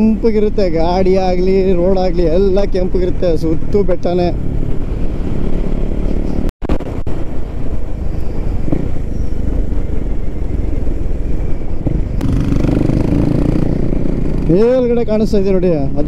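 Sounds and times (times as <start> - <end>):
motorcycle engine while riding: 0.0 - 16.0.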